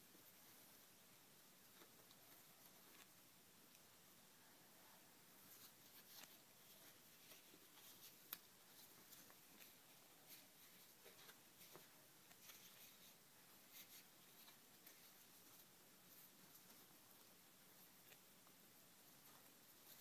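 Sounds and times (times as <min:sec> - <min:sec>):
faint rustling and soft ticks: 0:00.0 - 0:20.0.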